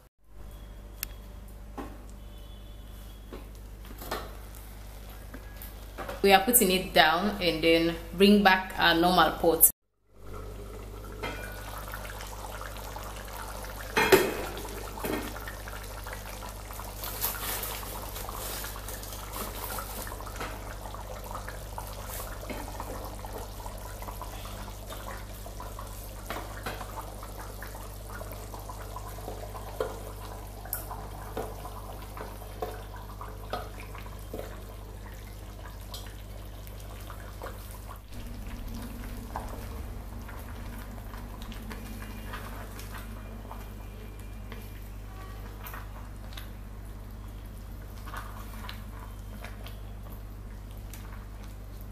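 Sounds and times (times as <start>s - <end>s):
stew bubbling in a pot: 10.0s - 51.9s.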